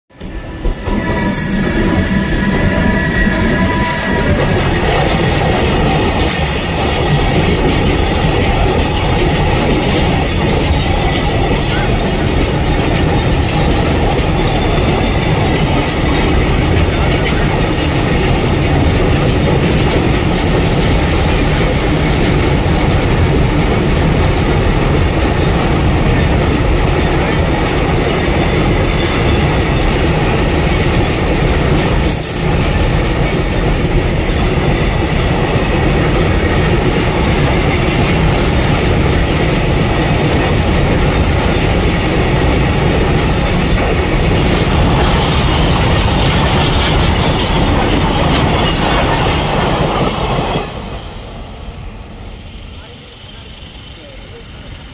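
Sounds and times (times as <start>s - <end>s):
train wheels rumbling on rails: 0.1s - 54.9s.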